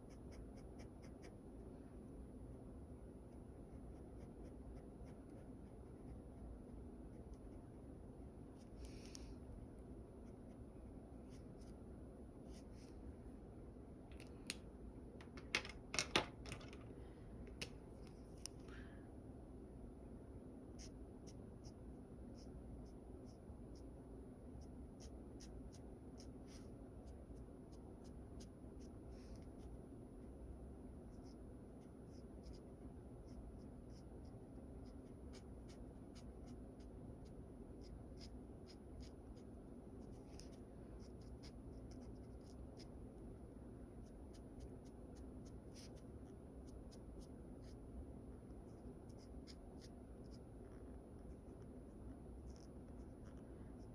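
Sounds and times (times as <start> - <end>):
faint background hum: 0.0 - 53.9.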